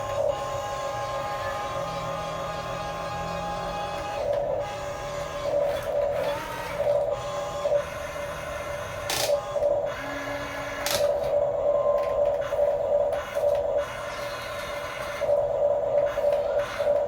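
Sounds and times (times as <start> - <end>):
small electric motors whirring: 0.0 - 17.0.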